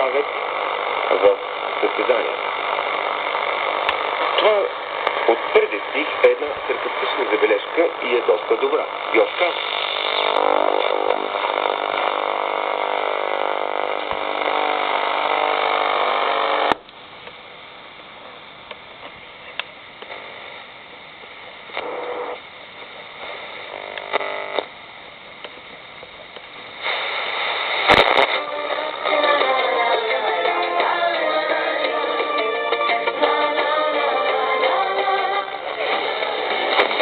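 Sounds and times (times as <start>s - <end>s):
radio static hiss: 0.0s - 37.0s
radio tuning across stations: 0.0s - 37.0s.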